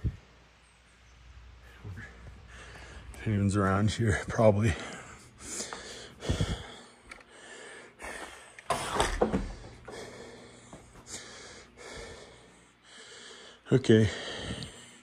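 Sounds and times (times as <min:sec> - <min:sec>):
man breathing: 0:01.5 - 0:03.3, 0:04.1 - 0:15.0.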